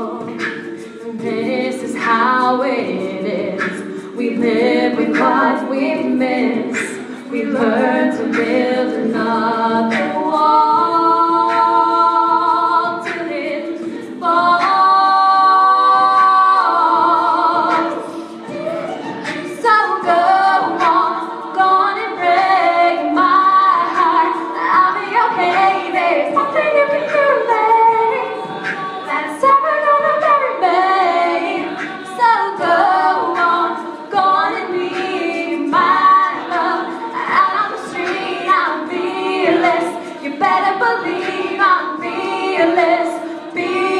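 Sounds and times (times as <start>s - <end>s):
female group singing a cappella: 0.0s - 43.9s.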